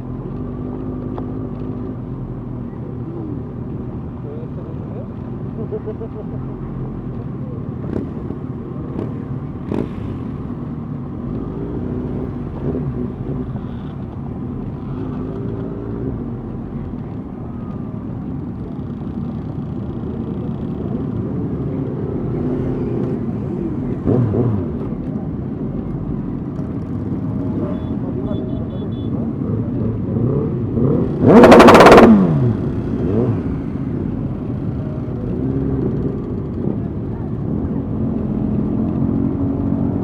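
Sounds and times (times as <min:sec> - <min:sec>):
motorcycle engines running: 0:00.0 - 0:40.0.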